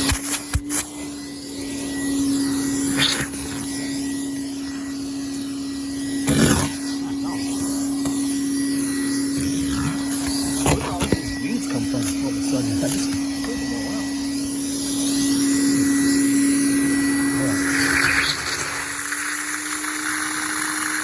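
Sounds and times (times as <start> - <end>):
shop vacuum running: 0.0 - 21.0.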